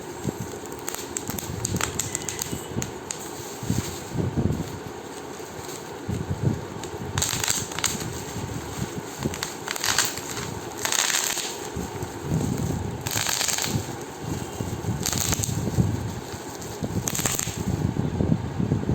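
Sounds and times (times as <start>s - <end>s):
plastic crinkling: 0.0s - 17.8s
bubble wrap popping: 0.2s - 17.8s.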